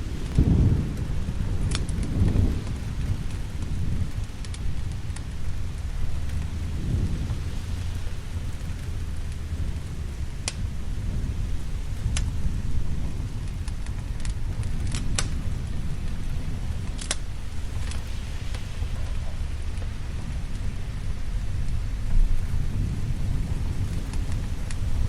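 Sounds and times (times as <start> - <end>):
fire crackling and popping: 0.0 - 25.0
low rumble of thunder: 0.0 - 25.0
steady rain: 0.0 - 25.0.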